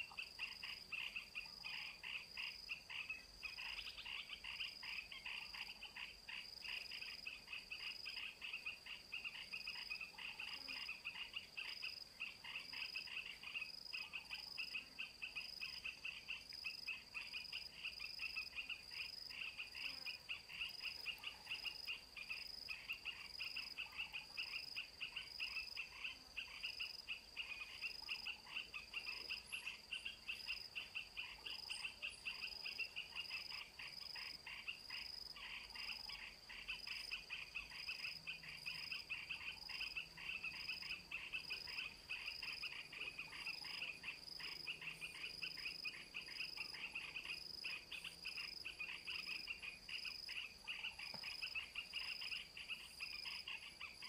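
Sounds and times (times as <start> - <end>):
fast pulsing frog chirp: 0.0 - 54.0
high continuous insect trill: 0.0 - 54.0.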